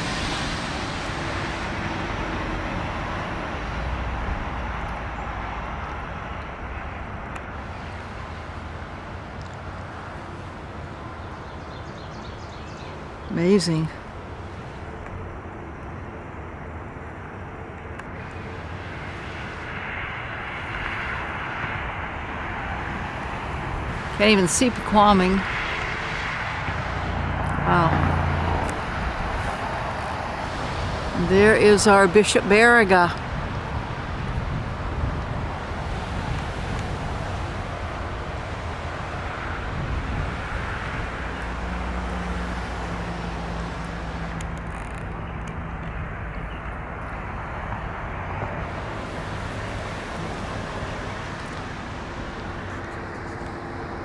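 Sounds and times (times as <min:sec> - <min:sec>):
car road rumble: 0:00.0 - 0:54.0.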